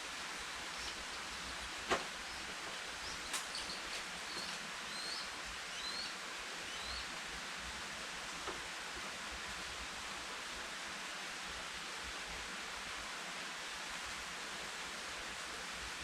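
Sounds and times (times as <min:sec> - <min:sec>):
rainforest background hiss: 0:00.0 - 0:16.0.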